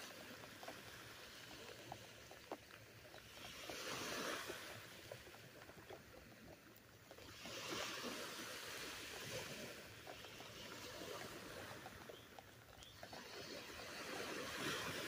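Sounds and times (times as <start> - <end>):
faint surf washing onto beach: 0.0 - 5.6, 7.2 - 12.2, 13.0 - 15.0.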